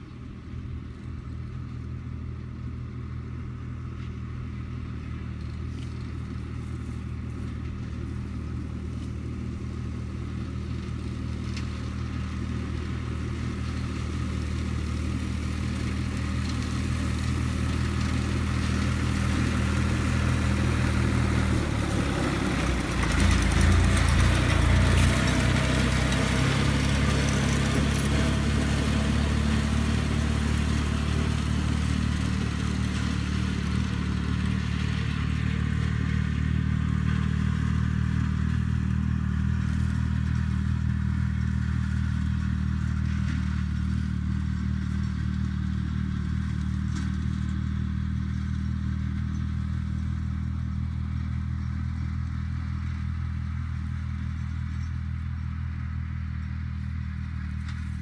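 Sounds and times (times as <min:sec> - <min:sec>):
tractor diesel engine running: 0:00.0 - 0:58.0
mower cutting noise: 0:03.7 - 0:58.0.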